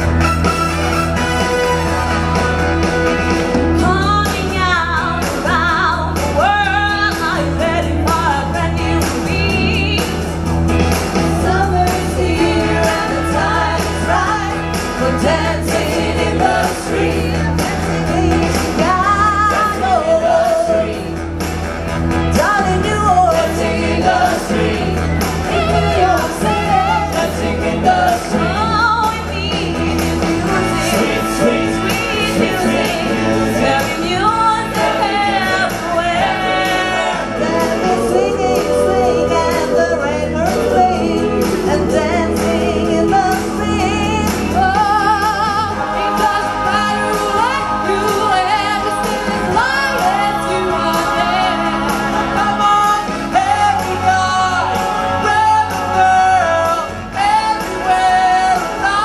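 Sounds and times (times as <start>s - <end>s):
amplified backing music with beat: 0.0s - 59.0s
vocal group singing pop song: 0.0s - 59.0s.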